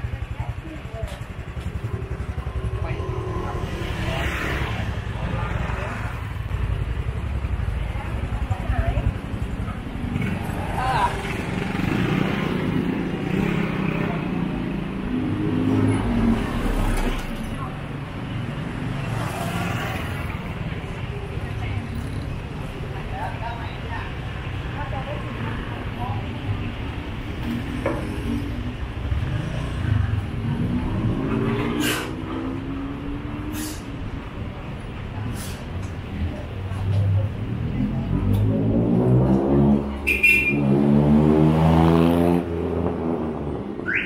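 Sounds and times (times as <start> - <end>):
low traffic rumble: 0.0 - 44.0
street noise: 0.0 - 44.0.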